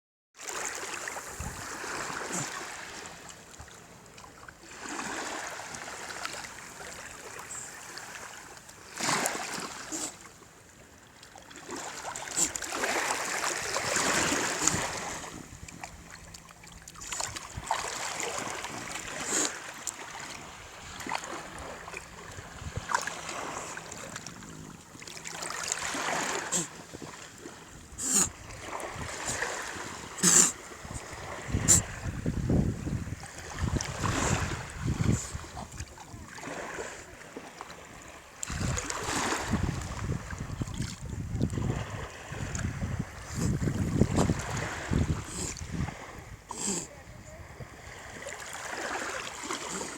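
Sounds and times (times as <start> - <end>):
sea waves washing onto shore: 0.4 - 3.9, 4.6 - 10.3, 11.6 - 46.8.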